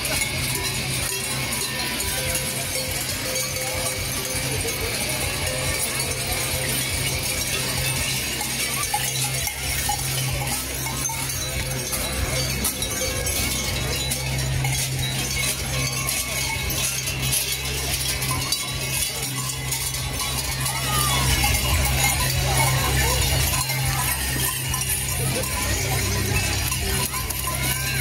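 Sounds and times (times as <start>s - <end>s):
large cowbells clanging: 0.0s - 28.0s.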